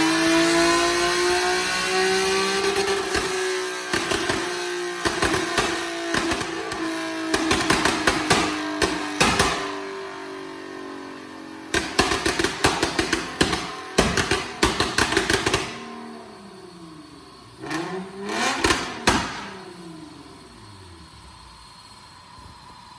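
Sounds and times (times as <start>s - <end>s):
car engine revving: 0.0s - 22.6s
sharp exhaust cracks: 0.0s - 22.9s.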